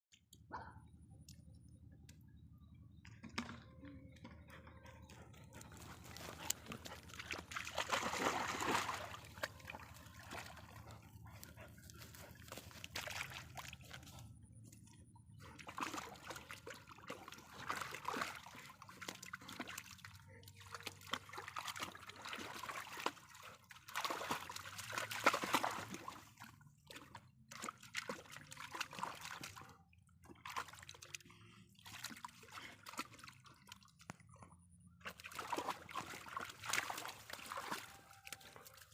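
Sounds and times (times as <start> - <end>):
water sloshing and trickling: 2.9 - 38.9.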